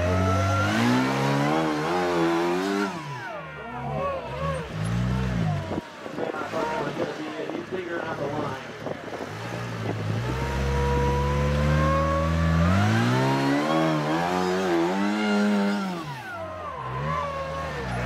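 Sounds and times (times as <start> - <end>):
buggy engine revving hard: 0.0 - 18.0.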